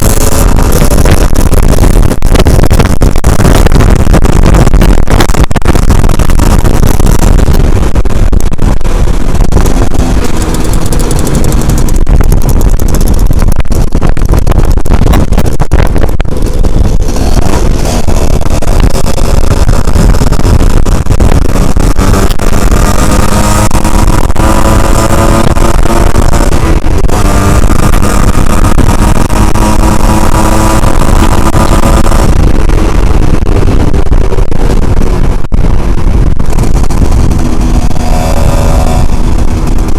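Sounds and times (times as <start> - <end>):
two-stroke motorbike engine: 0.0 - 39.9
wind rumble on microphone: 0.0 - 39.9.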